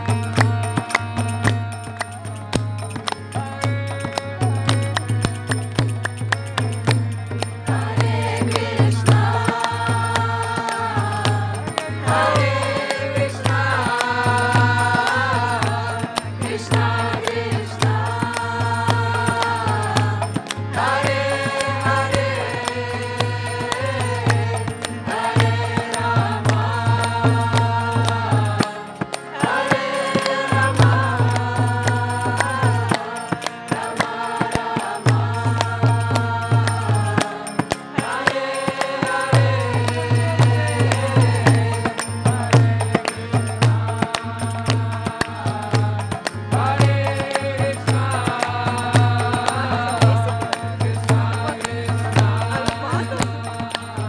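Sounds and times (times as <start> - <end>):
drum beating a steady rhythm: 0.0 - 54.0
voices chanting a melody: 7.6 - 54.0.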